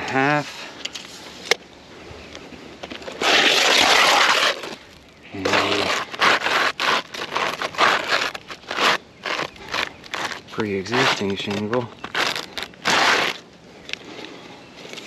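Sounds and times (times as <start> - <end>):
roof shingles scraping and crackling: 2.8 - 15.0.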